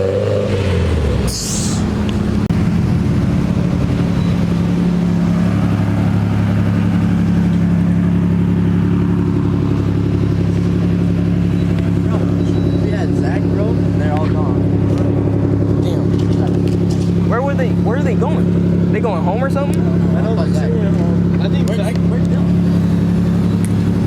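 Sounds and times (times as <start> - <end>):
car engine drone: 0.0 - 24.0
road noise: 0.0 - 24.0.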